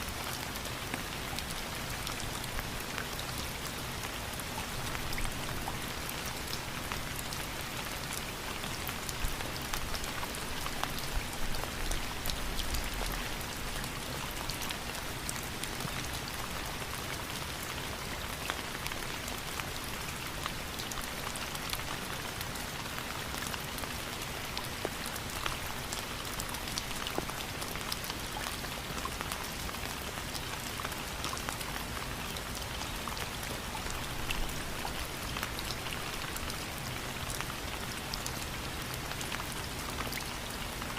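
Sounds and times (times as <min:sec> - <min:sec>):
raindrops ticking on a surface: 0:00.0 - 0:40.9
steady rainfall: 0:00.0 - 0:40.9.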